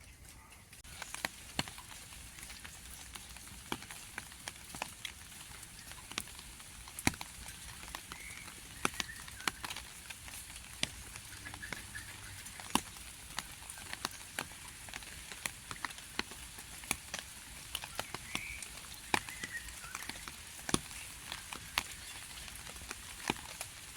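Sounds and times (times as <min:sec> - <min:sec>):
faint steady rain hiss: 0:00.0 - 0:23.9
raindrops ticking: 0:00.0 - 0:23.9.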